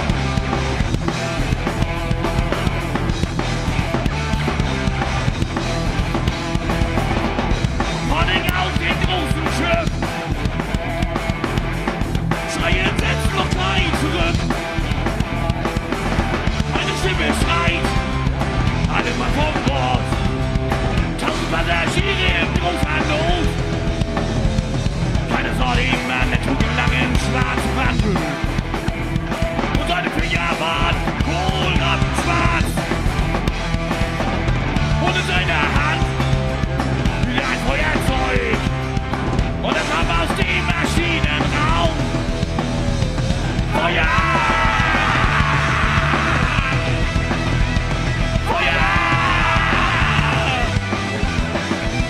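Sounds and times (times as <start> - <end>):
bass guitar: 0.0 - 52.0
drum kit: 0.0 - 52.0
electric guitars: 0.0 - 52.0
live rock band playing: 0.0 - 52.0.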